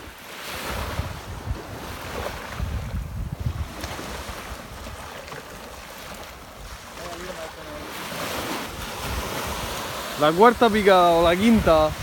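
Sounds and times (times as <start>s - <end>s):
waves washing on shore: 0.0s - 12.0s
wind buffeting microphone: 0.0s - 12.0s.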